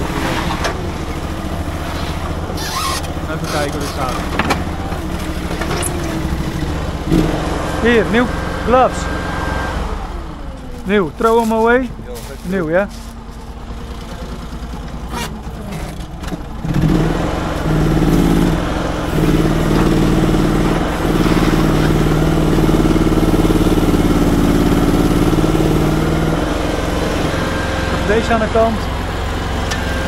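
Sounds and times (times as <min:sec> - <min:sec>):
loader engine idling and revving: 0:00.0 - 0:30.0.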